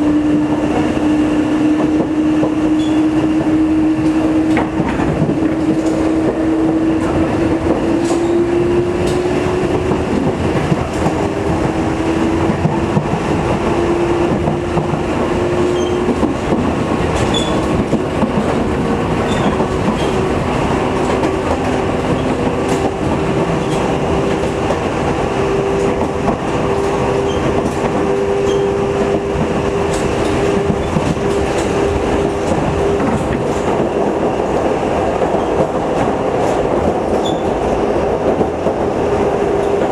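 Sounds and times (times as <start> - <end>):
train rumble: 0.0 - 39.9
wheels clicking over rail joints: 4.0 - 39.9.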